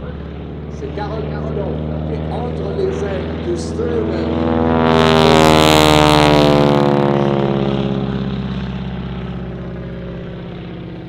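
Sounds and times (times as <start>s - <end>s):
biplane engine passing by: 0.0s - 11.0s.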